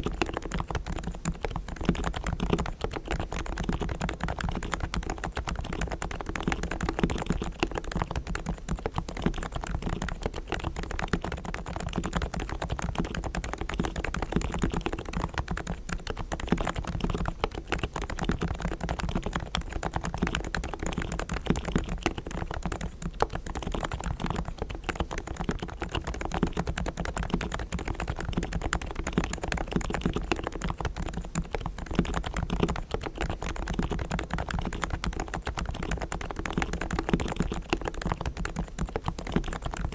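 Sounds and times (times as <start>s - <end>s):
fast typing on keyboard: 0.0s - 39.9s.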